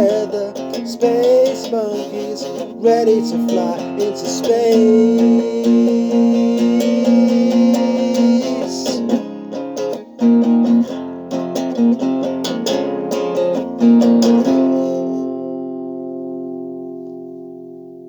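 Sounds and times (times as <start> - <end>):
guitar chords strummed: 0.0 - 18.0.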